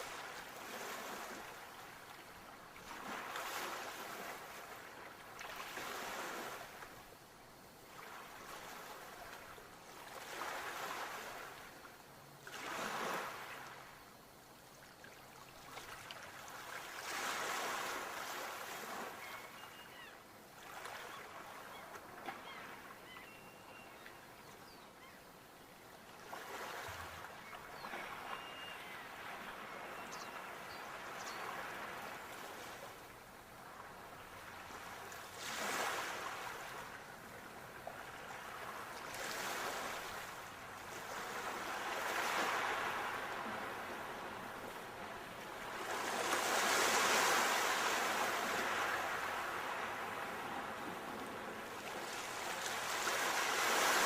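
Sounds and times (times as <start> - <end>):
sea waves breaking on shore: 0.0 - 7.0, 7.8 - 11.8, 12.4 - 14.0, 15.3 - 23.4, 26.1 - 54.0.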